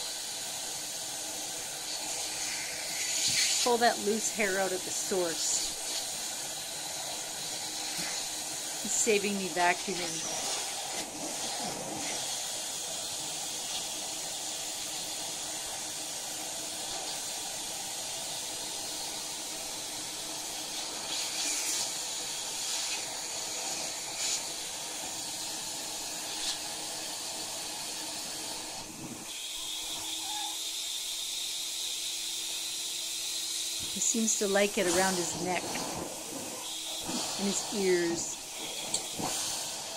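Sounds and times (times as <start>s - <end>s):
vacuum hose sucking air: 0.0s - 39.9s.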